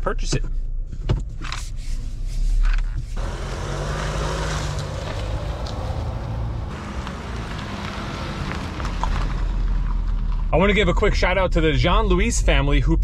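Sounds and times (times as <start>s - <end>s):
car driving slowly inside cabin: 0.0s - 12.3s.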